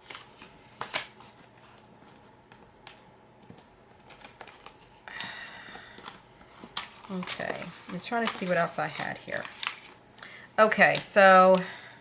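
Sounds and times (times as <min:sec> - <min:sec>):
paper rustling and tapping: 0:00.0 - 0:10.0, 0:10.8 - 0:11.6.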